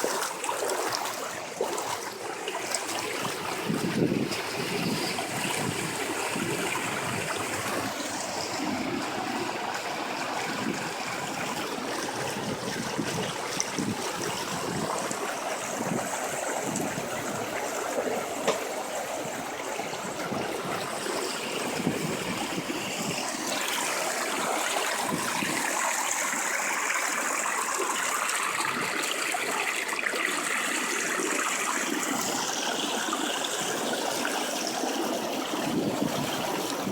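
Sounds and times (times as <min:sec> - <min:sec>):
floodwater rushing: 0:00.0 - 0:36.9.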